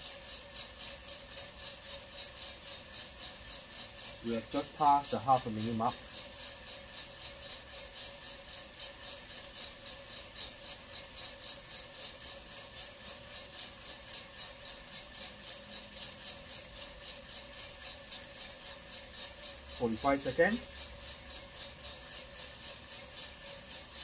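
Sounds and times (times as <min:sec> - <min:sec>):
coffee beans tumbling in drum: 0:00.0 - 0:24.0
motor hum: 0:00.0 - 0:24.0.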